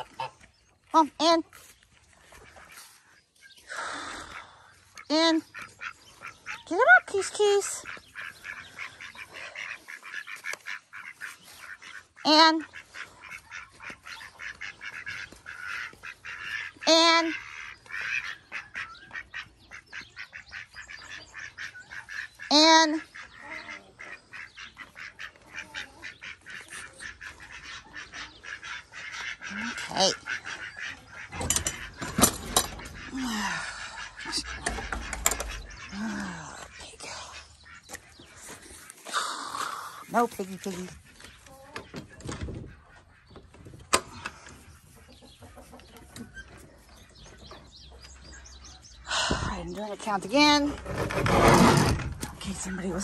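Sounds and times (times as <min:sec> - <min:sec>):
goose and ducks calling softly: 0:00.0 - 0:50.9, 0:52.3 - 0:53.0
chickens clucking: 0:00.0 - 0:53.0.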